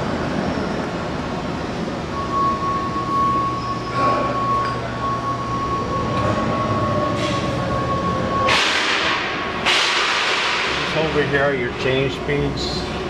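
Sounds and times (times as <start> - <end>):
lathe whine and gear noise: 0.0 - 13.0.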